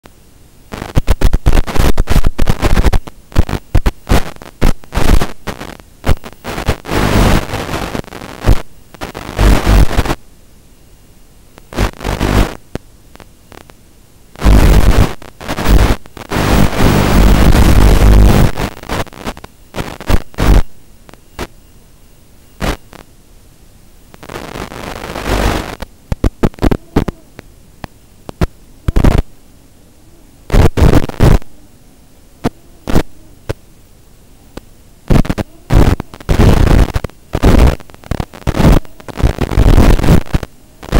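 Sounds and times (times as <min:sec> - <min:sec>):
radio static bursts: 0:00.0 - 0:10.2, 0:11.5 - 0:23.2, 0:24.1 - 0:29.4, 0:30.5 - 0:31.6, 0:32.3 - 0:33.7, 0:34.5 - 0:40.9
hum: 0:00.0 - 0:40.9.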